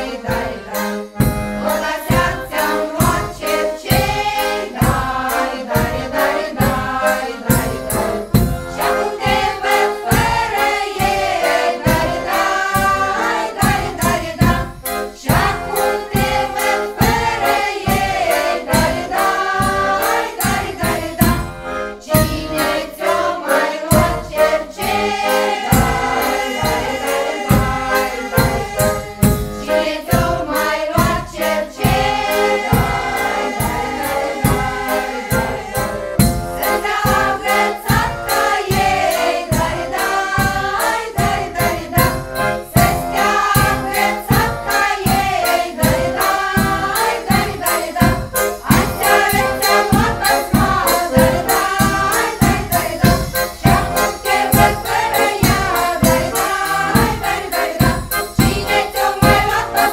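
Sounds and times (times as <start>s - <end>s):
frame drum beating: 0.0s - 21.6s, 22.2s - 59.9s
accordion: 0.0s - 59.9s
women's choir singing in unison: 0.0s - 59.9s.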